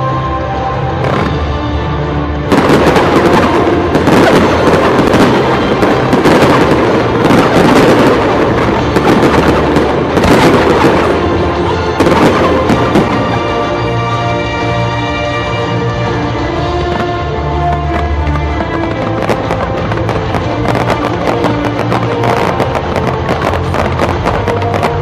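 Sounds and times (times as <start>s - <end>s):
music playing: 0.0s - 25.0s
fireworks bangs and crackling: 1.0s - 1.6s, 2.4s - 25.0s.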